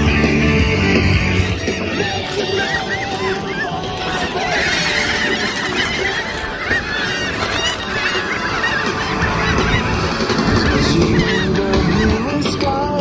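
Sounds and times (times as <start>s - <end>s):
flock of gulls calling: 0.0s - 13.0s.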